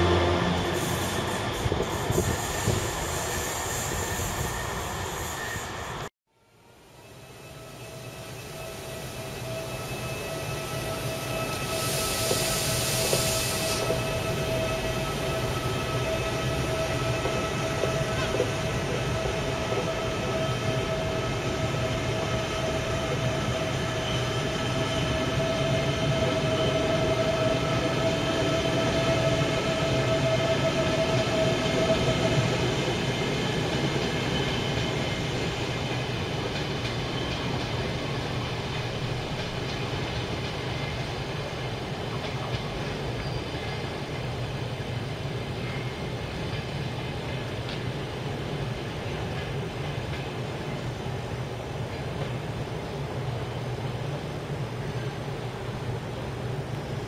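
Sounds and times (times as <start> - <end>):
electric train whine: 0.0 - 57.0.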